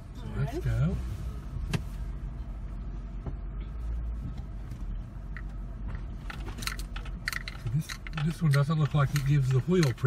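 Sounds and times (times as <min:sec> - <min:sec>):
car engine rumble from inside: 0:00.0 - 0:10.0.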